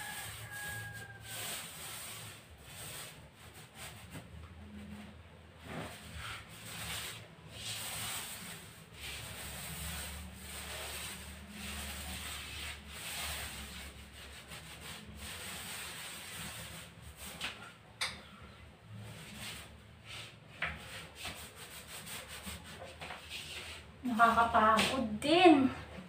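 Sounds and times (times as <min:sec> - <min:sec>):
paint roller rubbing over wall: 0:00.0 - 0:17.8, 0:18.9 - 0:26.0.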